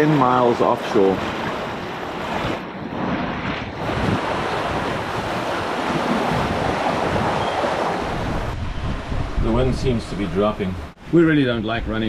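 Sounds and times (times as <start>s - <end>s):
sea water rushing along hulls: 0.0s - 12.0s
wind blowing over microphone: 0.8s - 12.0s.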